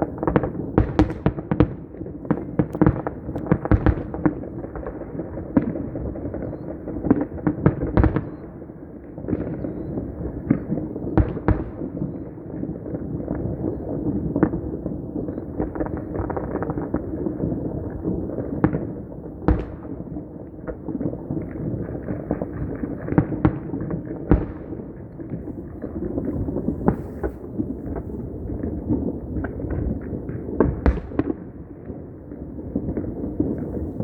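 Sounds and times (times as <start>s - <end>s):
loud firework bangs: 0.0s - 8.6s, 15.3s - 34.0s
firecrackers crackling: 0.0s - 34.0s.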